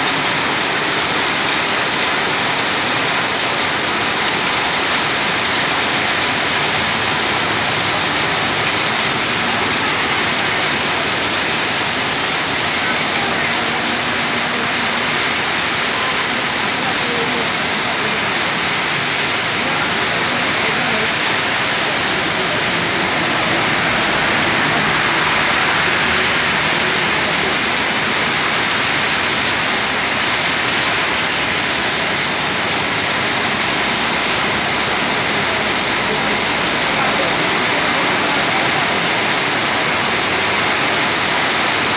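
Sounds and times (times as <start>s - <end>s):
heavy rain on road: 0.0s - 41.9s.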